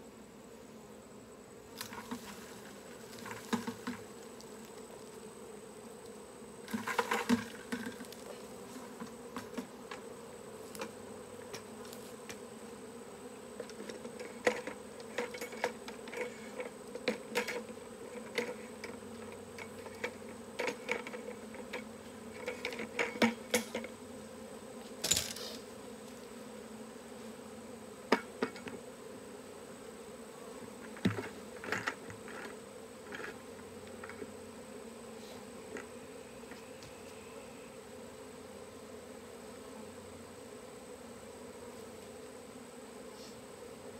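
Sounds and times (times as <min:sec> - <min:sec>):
bee swarm buzzing: 0:00.0 - 0:43.9.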